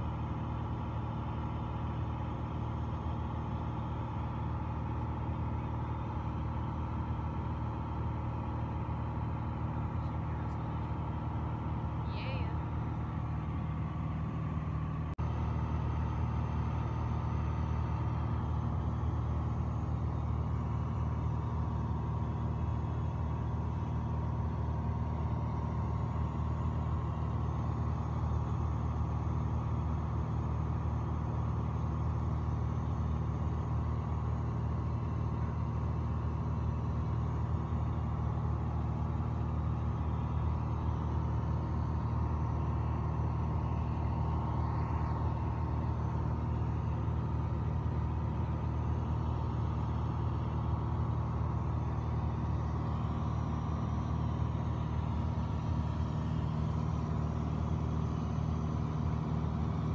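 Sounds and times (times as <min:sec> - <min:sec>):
aircraft engine droning in cabin: 0:00.0 - 0:59.9.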